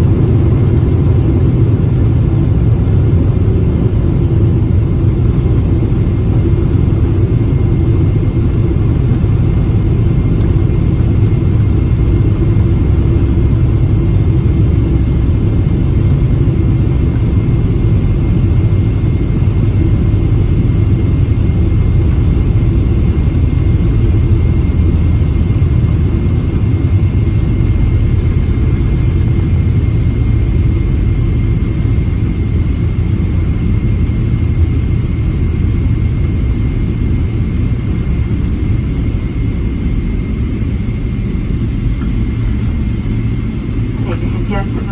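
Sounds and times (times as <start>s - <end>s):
airplane cabin low rumble: 0.0s - 44.9s.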